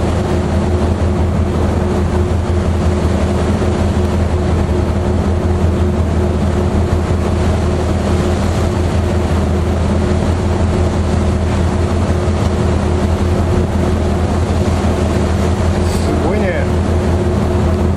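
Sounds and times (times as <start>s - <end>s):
ferry engines droning: 0.0s - 17.9s
wind and sea hiss: 0.0s - 17.9s.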